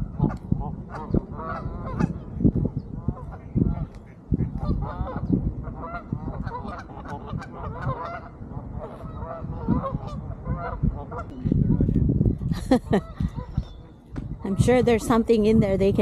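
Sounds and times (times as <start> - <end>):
geese honking: 0.0 - 2.3, 3.0 - 11.8, 12.9 - 15.2.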